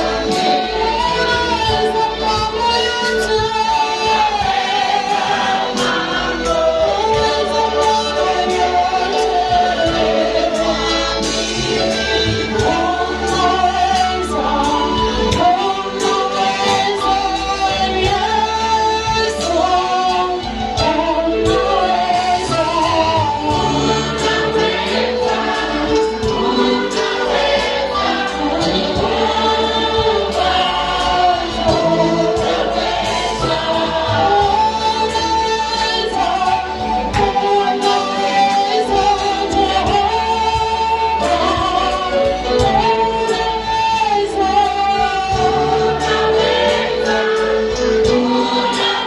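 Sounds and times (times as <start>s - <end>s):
choir singing: 0.0s - 49.0s
held instrumental backing: 0.0s - 49.0s.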